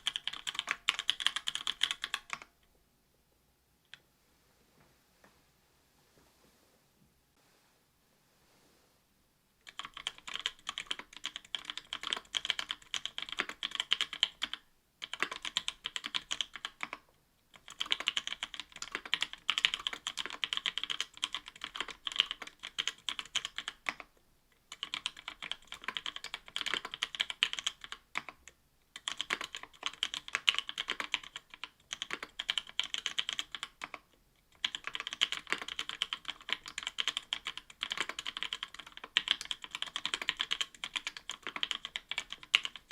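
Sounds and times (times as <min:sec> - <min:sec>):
mechanical keyboard typing: 0:00.0 - 0:02.5, 0:09.6 - 0:24.1, 0:24.7 - 0:42.9.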